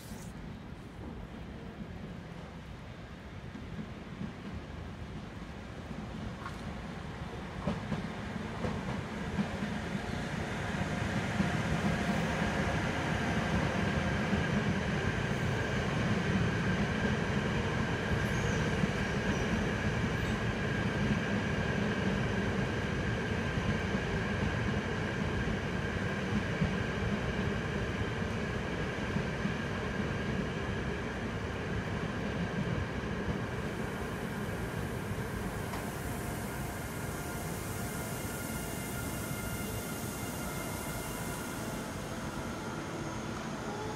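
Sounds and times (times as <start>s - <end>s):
electric train rumbling: 0.0s - 43.9s
high whine of train: 0.0s - 43.9s.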